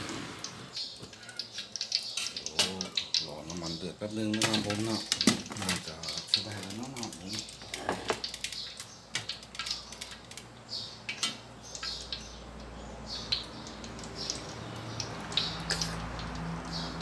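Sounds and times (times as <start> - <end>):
food sizzling in oil: 0.0 - 17.0
hot oil crackling and popping: 0.0 - 17.0.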